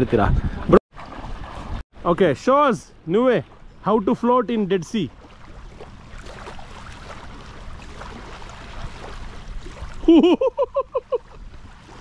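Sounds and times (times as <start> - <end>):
water rushing and gurgling: 1.0 - 12.0.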